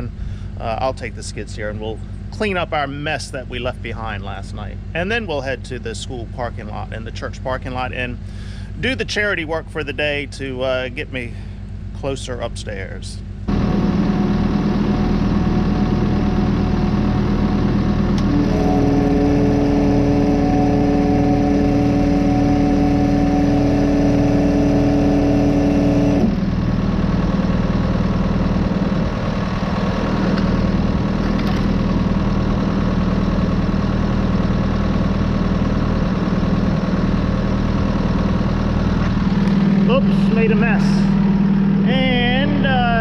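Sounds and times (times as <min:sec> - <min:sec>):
multi-pitched whine: 0:00.0 - 0:43.0
vehicle engine running: 0:00.0 - 0:43.0.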